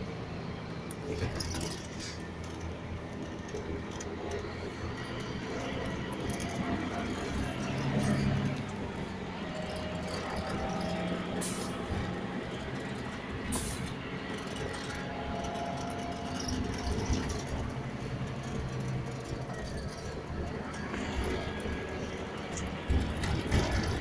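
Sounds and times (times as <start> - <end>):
coach engine and road noise: 0.0 - 24.0.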